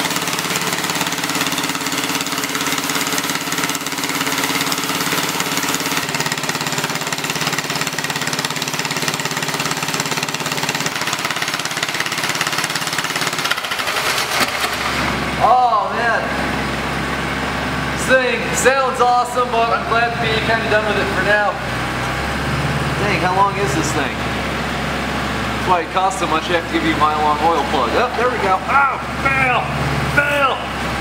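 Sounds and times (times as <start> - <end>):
air compressor engine running: 0.0 - 31.0.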